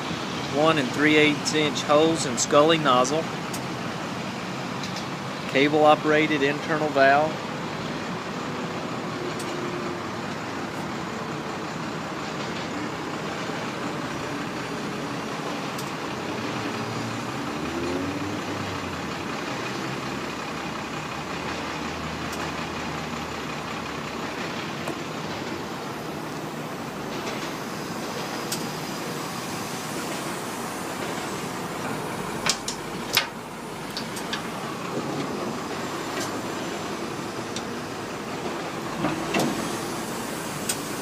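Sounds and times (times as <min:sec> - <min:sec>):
vehicle rumble: 0:00.0 - 0:41.0.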